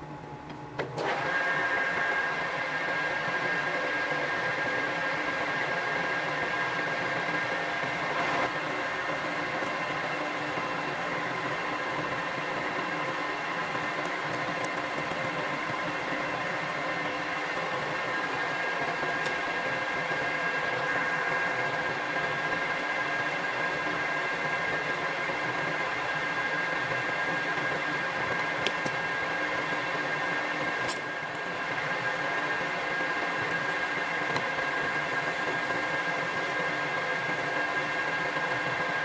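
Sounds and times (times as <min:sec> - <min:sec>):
metal lathe humming and whining: 0:00.9 - 0:39.0.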